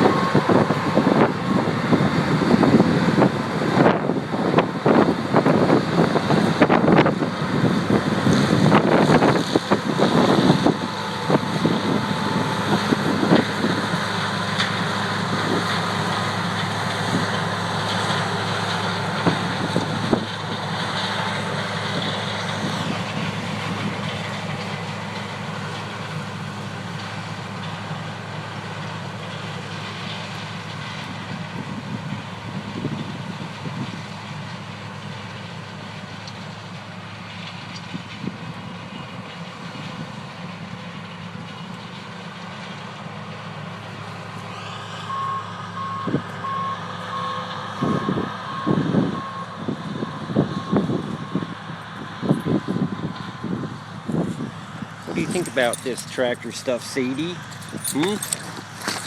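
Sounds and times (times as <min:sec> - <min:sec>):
farm machinery engine running: 0:00.0 - 0:59.0.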